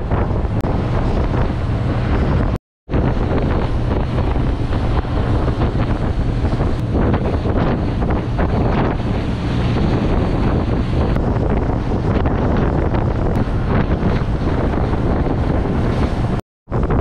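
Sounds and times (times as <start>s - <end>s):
boat engine: 0.0s - 17.0s
boat wake rushing: 0.0s - 17.0s
wind buffeting microphone: 0.0s - 17.0s.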